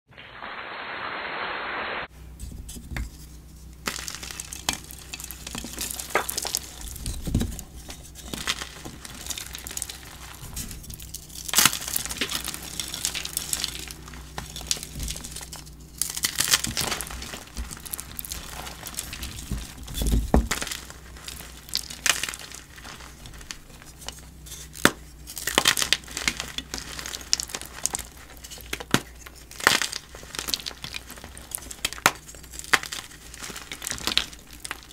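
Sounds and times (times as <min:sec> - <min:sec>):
chalk crunching and crumbling: 0:02.2 - 0:34.9.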